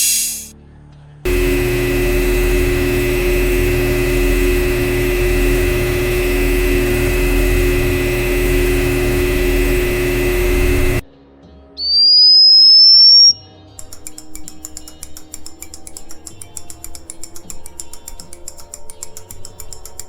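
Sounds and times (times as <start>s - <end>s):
machine hum: 1.3s - 11.0s, 12.4s - 20.0s.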